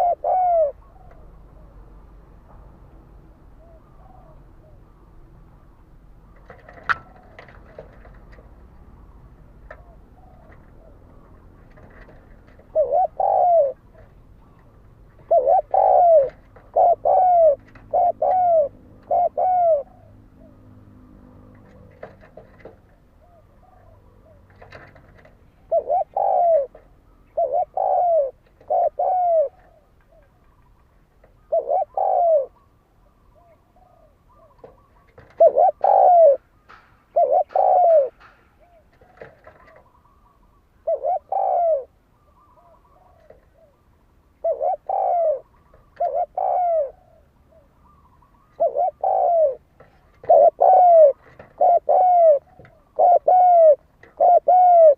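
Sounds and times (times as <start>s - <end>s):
dove cooing: 0.0s - 2.2s, 3.4s - 54.9s.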